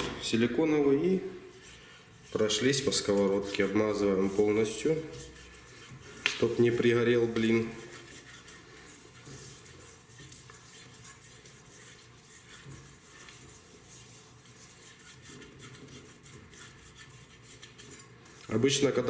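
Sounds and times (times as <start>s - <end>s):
pastry brush on frying pan: 1.3s - 19.0s.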